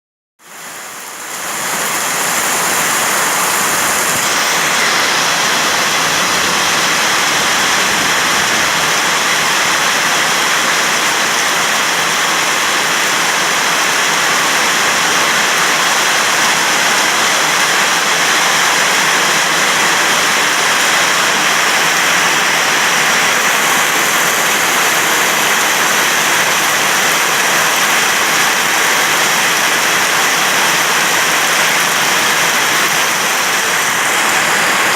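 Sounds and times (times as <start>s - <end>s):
heavy rain: 0.4s - 34.9s.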